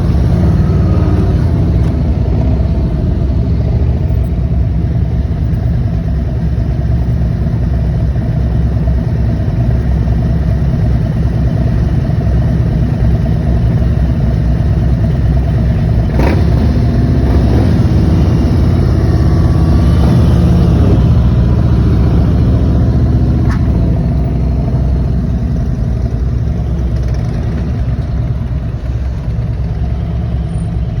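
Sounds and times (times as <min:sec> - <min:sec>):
motorcycle engines idling: 0:00.0 - 0:31.0.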